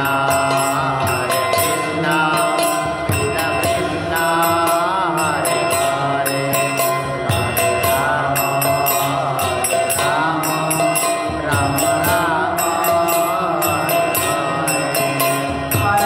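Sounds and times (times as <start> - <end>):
hand drum beat: 0.0 - 16.0
person chanting: 0.0 - 16.0
small hand cymbals: 0.0 - 16.0.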